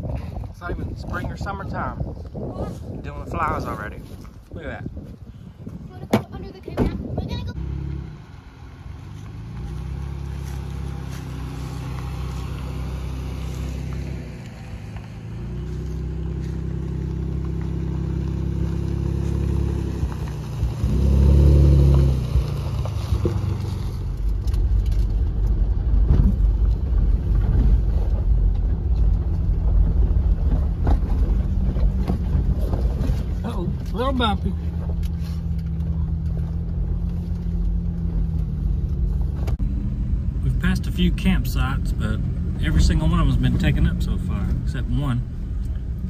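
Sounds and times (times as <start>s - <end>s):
road noise: 0.0s - 46.0s
vehicle engine running: 5.8s - 46.0s.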